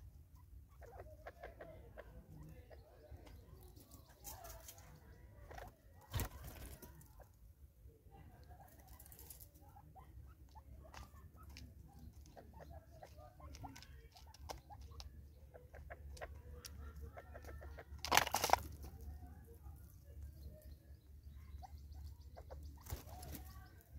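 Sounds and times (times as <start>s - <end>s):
birds clucking: 0.0s - 7.5s, 8.3s - 23.9s.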